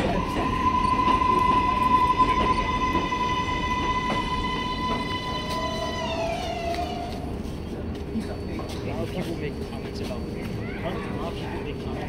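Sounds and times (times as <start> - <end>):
electric train whine: 0.0 - 12.0
train wheels rumbling on rail: 0.0 - 12.0.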